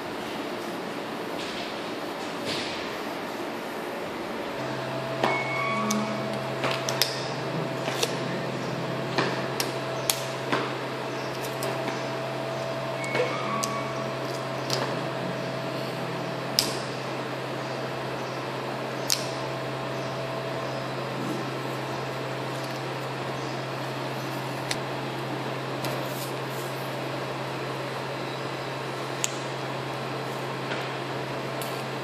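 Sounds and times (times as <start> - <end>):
appliance humming: 0.0 - 32.0.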